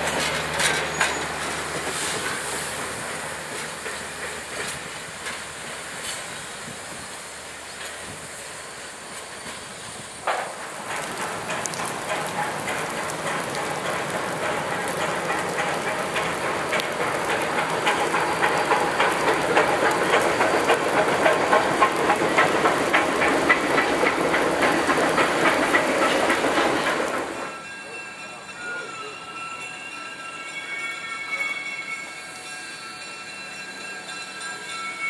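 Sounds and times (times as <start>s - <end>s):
train wheels clicking over rail joints: 0.0s - 30.2s.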